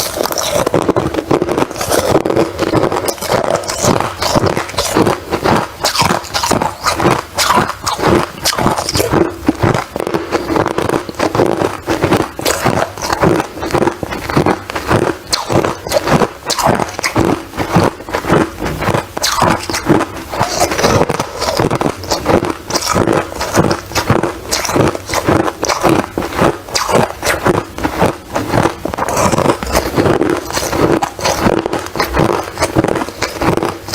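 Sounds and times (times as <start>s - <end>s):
ice being crunched: 0.0s - 33.9s.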